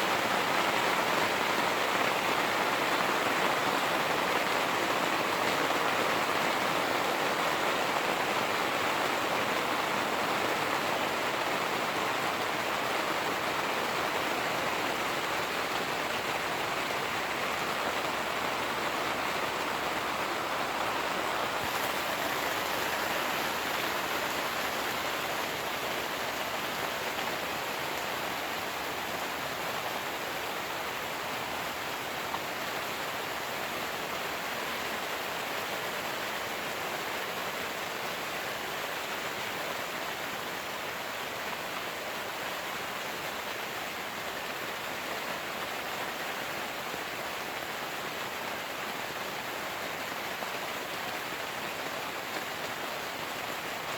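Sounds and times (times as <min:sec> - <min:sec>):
rain falling on a tent: 0:00.0 - 0:53.9.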